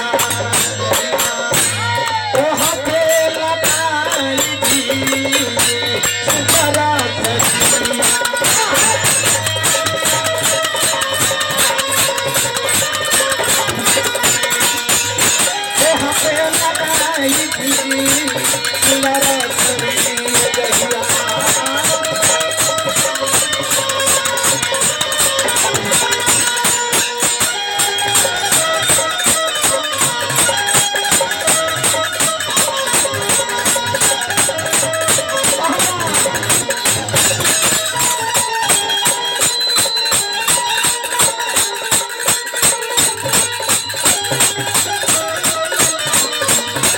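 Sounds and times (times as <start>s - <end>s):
folk music with jingling percussion: 0.0s - 46.9s.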